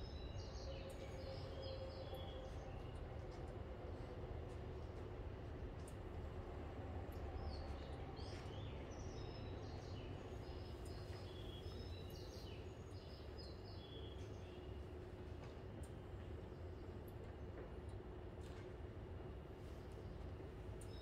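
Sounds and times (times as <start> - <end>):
low hum of station platform: 0.0 - 21.0.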